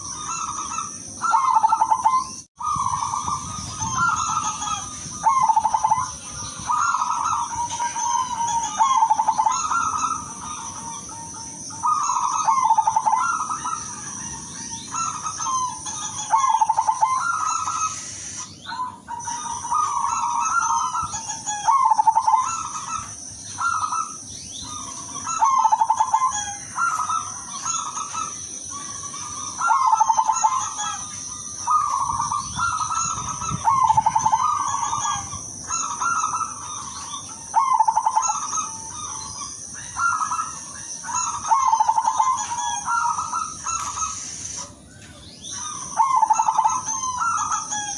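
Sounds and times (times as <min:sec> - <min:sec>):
dove cooing: 0:00.0 - 0:18.0, 0:18.6 - 0:47.9.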